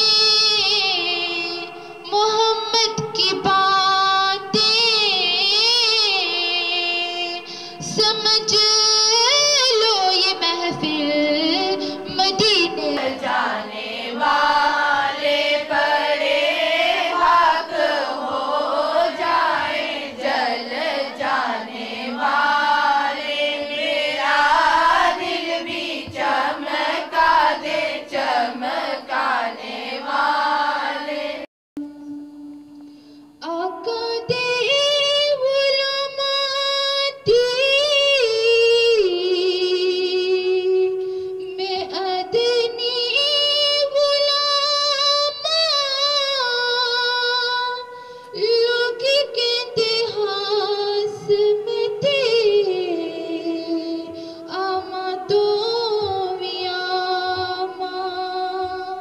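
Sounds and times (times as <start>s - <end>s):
women singing devotional song: 0.0s - 31.5s, 33.4s - 59.0s.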